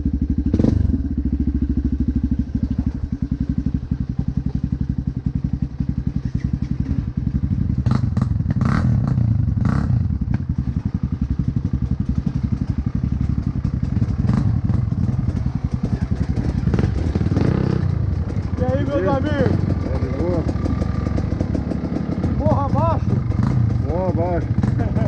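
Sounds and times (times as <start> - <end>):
motocross bike engine running: 0.0 - 25.0.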